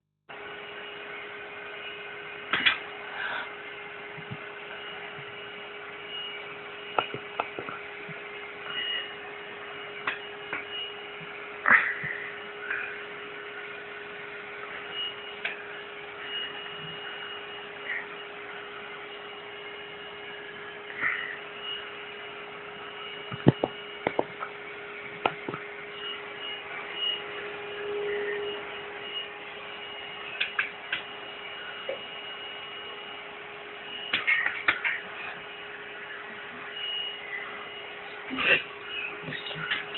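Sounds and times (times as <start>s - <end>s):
steady electrical hum: 0.3s - 39.9s.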